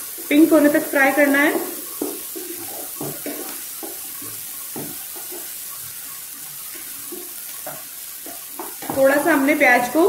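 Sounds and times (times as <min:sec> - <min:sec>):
onions sizzling in hot oil: 0:00.0 - 0:10.0
wooden spatula scraping a pan: 0:00.0 - 0:10.0.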